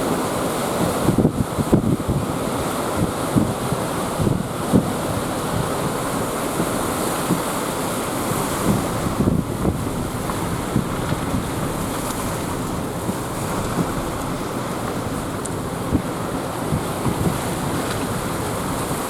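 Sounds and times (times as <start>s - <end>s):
waves breaking on rocky shore: 0.0s - 19.0s
wind buffeting microphone: 0.0s - 19.0s.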